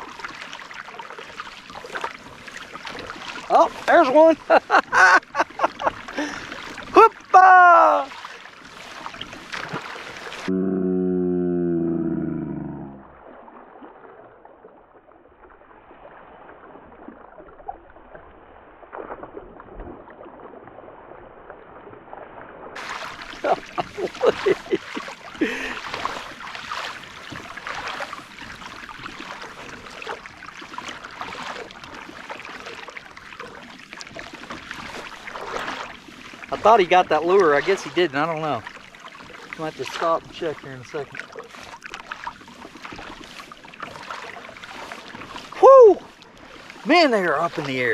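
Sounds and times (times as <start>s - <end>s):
water splashing around kayak hull: 0.0s - 10.5s, 11.2s - 47.9s.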